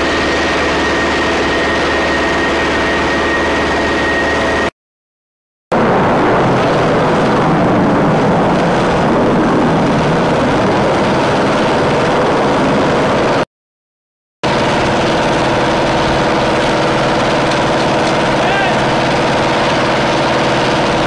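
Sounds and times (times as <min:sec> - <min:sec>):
engine running loudly: 0:00.0 - 0:04.7, 0:05.8 - 0:13.5, 0:14.4 - 0:21.0.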